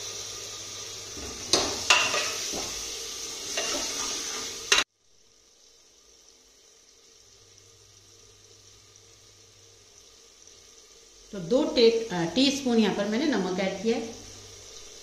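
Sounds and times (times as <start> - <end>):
faint hiss: 0.0 - 15.0
tomatoes sizzling in hot oil: 0.0 - 15.0.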